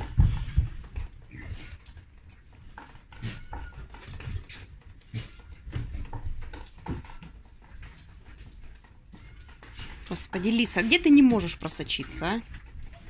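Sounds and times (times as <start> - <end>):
paws pattering on wooden deck: 0.0 - 13.0.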